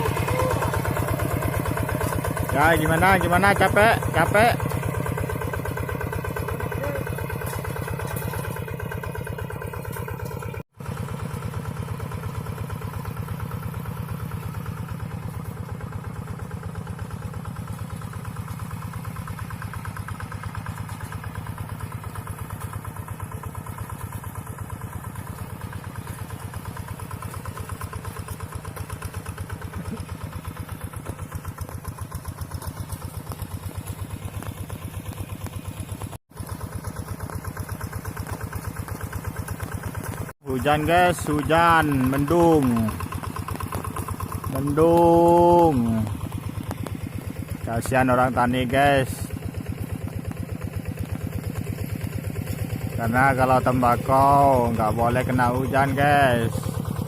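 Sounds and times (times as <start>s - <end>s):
diesel hand tractor engine running: 0.0s - 57.0s.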